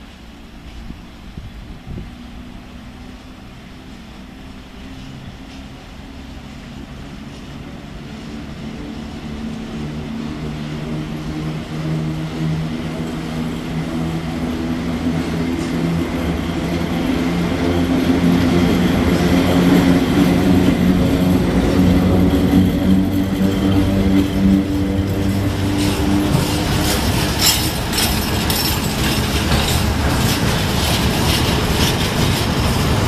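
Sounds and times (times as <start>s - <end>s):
electric locomotive hum: 0.0s - 33.0s.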